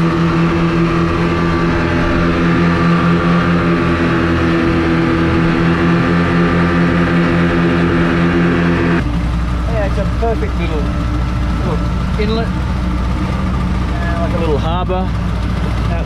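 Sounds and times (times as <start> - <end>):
rushing wind and water: 0.0 - 14.5
outboard motors droning: 0.0 - 16.0.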